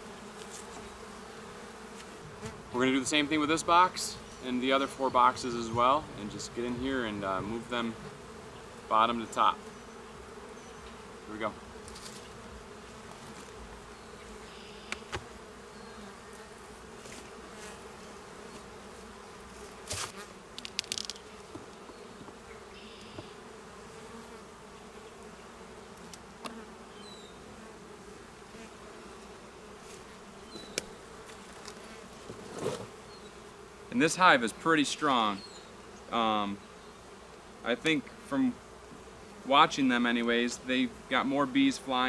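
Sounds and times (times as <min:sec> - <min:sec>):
bees buzzing: 0:00.0 - 0:42.0.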